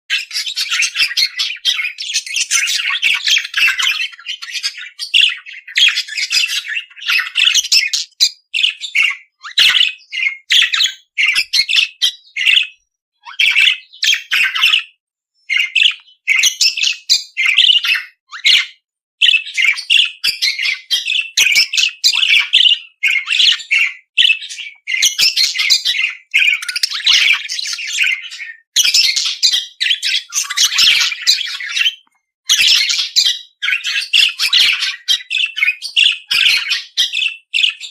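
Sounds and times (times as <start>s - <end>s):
budgerigar chattering and warbling: 0.1s - 37.9s.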